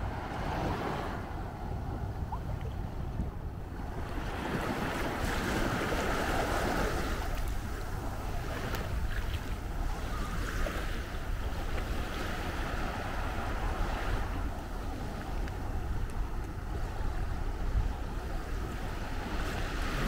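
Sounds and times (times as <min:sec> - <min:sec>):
small sea waves washing ashore: 0:00.0 - 0:20.0
wind rumbling on microphone: 0:00.0 - 0:20.0.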